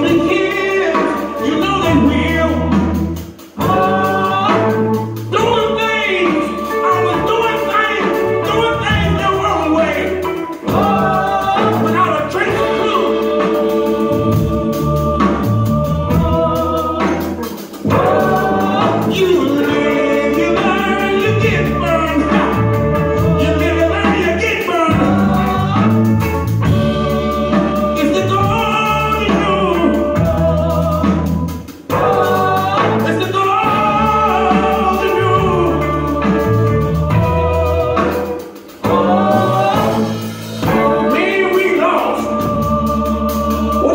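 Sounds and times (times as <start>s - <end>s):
live gospel-like band with singers: 0.0s - 43.9s.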